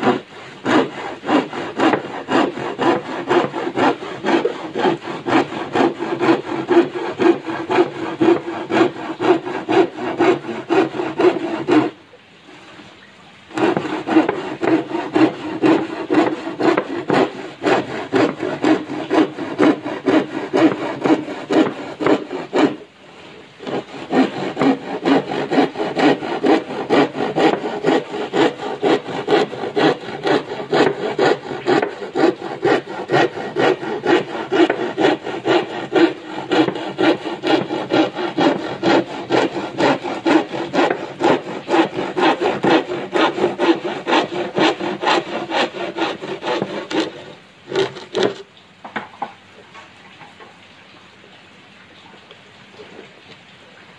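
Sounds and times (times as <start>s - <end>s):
handsaw cutting wood: 0.0s - 12.0s, 13.5s - 48.5s.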